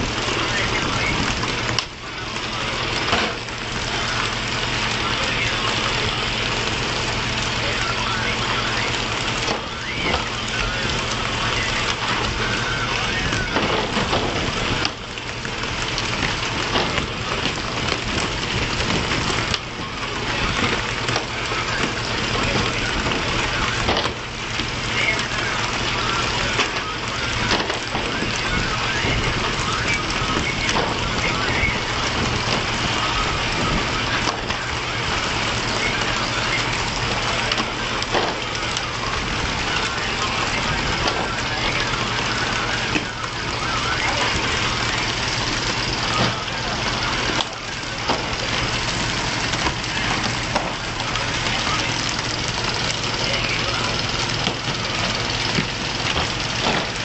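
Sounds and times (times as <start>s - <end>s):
boat engine running: 0.0s - 57.0s
men's voices: 0.0s - 57.0s
sea water splashing: 0.0s - 57.0s.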